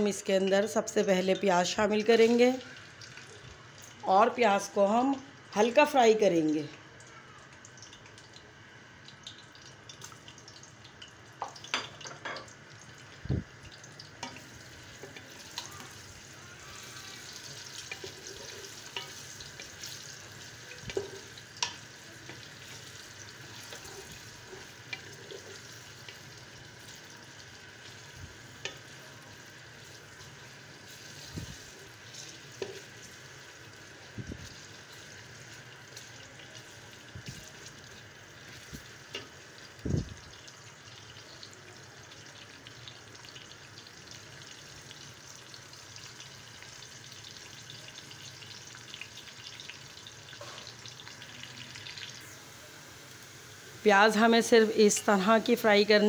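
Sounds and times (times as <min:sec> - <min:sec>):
onions sizzling in hot oil: 0:00.0 - 0:56.0.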